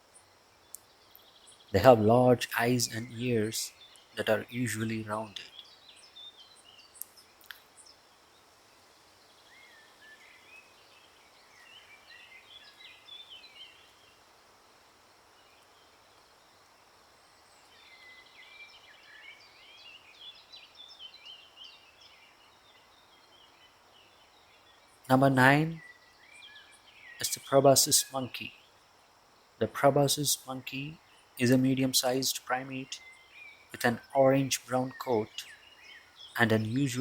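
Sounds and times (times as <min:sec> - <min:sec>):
faint birds chirping: 0:00.0 - 0:37.0
steady low hiss: 0:00.0 - 0:37.0.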